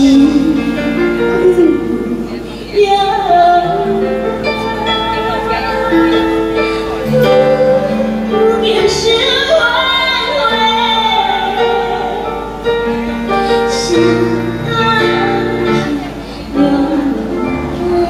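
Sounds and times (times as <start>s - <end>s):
backing track music: 0.0s - 18.0s
girl singing a slow ballad: 0.0s - 18.0s.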